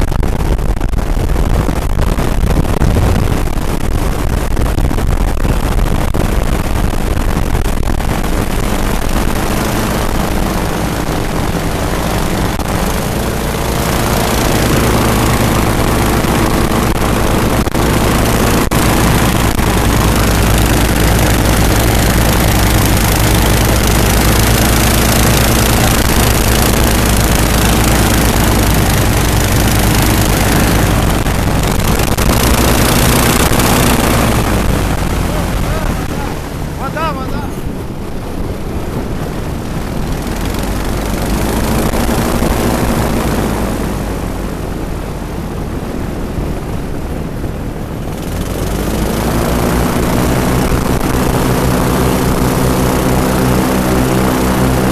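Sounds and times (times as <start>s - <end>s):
airboat engines and propellers: 0.0s - 54.9s.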